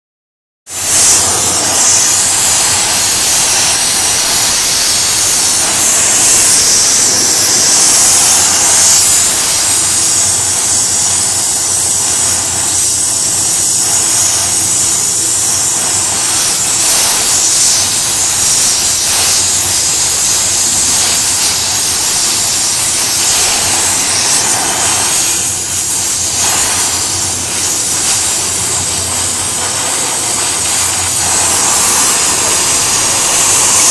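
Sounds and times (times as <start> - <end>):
welding torch flame hissing: 0.7 - 33.9.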